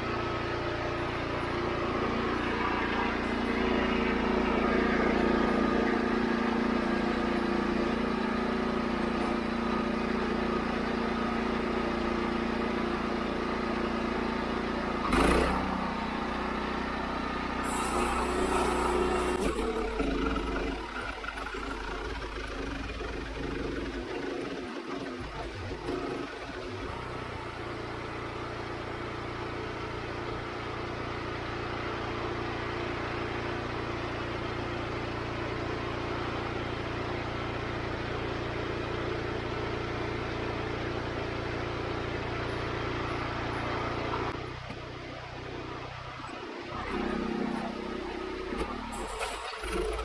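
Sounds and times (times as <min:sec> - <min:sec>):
band sawmill engine running: 0:00.0 - 0:50.0.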